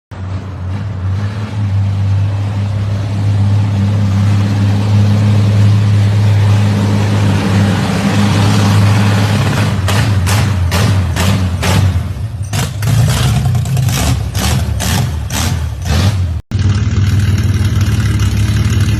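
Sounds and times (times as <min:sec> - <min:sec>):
car engine with deep exhaust rumble: 0:00.1 - 0:18.9.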